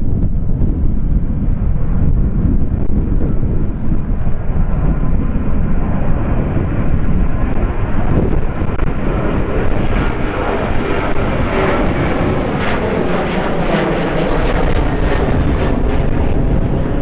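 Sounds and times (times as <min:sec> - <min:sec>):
aircraft engine whine: 0:00.0 - 0:17.0
wind buffeting microphone: 0:00.0 - 0:17.0.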